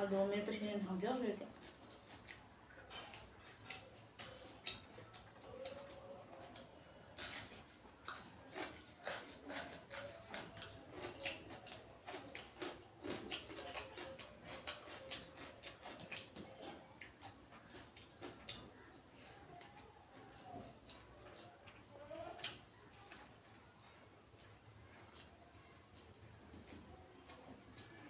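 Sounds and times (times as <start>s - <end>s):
person chewing wetly: 1.5s - 23.8s, 24.4s - 28.0s.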